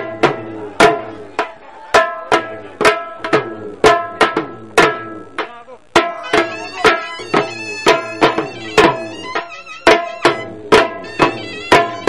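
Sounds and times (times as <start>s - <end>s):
drum struck hard: 0.0s - 12.0s.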